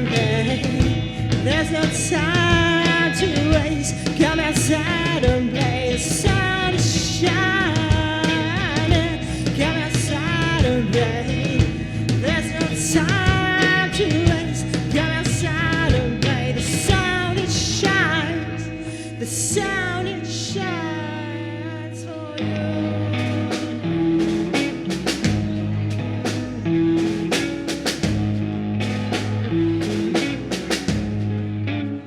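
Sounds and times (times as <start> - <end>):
drum kit: 0.0 - 18.7, 23.0 - 31.7
bass guitar: 0.0 - 32.0
guitar: 0.0 - 32.0.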